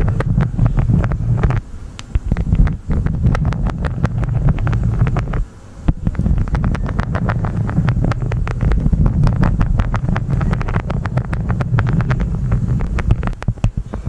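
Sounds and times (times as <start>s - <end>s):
wax crunching crackles: 0.0s - 14.0s
wind rumble on microphone: 0.0s - 14.0s.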